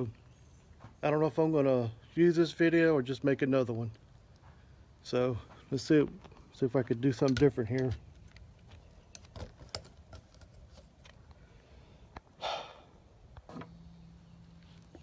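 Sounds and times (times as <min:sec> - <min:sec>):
faint low hum: 0:02.9 - 0:15.0.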